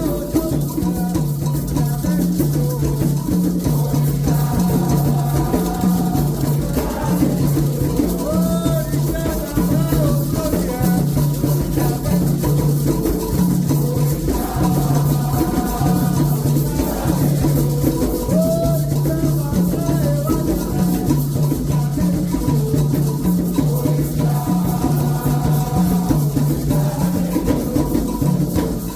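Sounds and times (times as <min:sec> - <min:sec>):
hand drums: 0:00.0 - 0:28.9
shaken rattle: 0:00.0 - 0:28.9
voices singing: 0:00.0 - 0:28.9.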